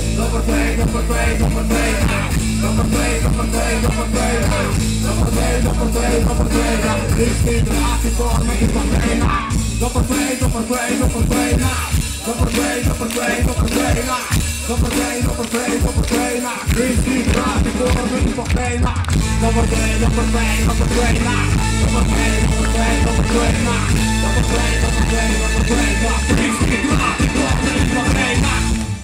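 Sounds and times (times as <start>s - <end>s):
live rock band with horns: 0.0s - 29.0s.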